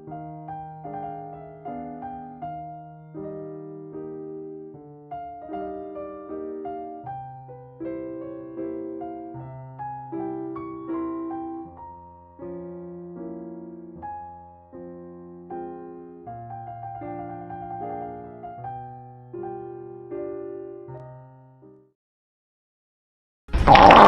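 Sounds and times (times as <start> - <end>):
gentle slow piano music: 0.0 - 22.0.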